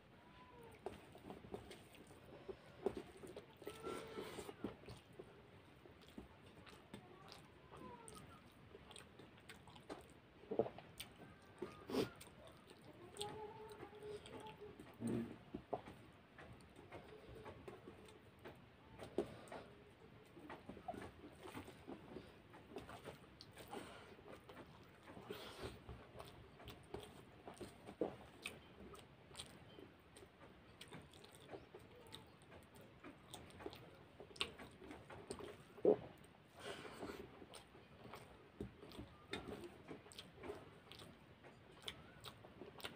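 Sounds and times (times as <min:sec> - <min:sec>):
person chewing and mouth smacks: 0:00.6 - 0:42.9.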